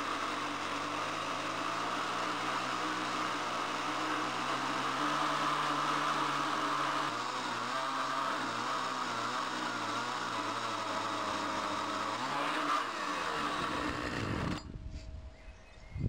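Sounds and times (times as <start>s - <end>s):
chainsaw running at high revs: 0.0s - 14.6s.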